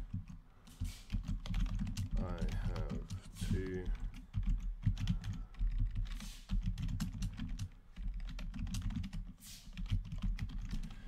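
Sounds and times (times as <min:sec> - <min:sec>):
typing on computer keyboard: 0:00.0 - 0:11.0.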